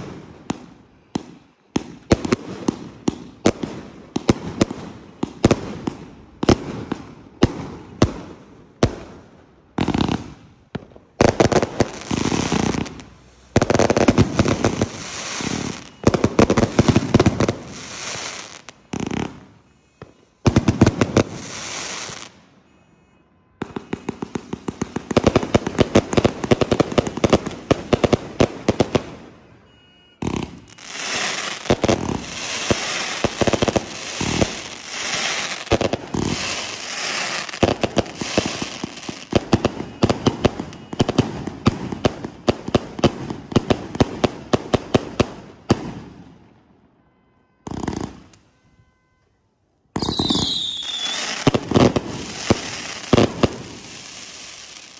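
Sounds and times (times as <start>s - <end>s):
fireworks firing pops and crackle: 0.0s - 22.4s, 23.6s - 29.3s, 30.2s - 46.4s, 47.6s - 48.5s, 49.9s - 54.9s.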